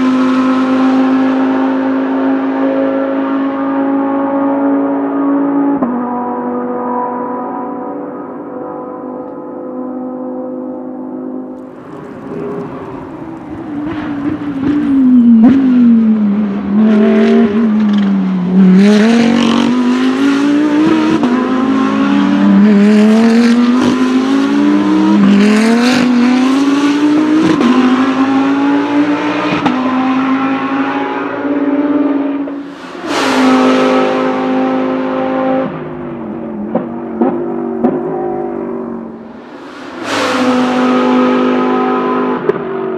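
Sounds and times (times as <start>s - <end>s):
race car engine at speed: 0.0s - 42.9s.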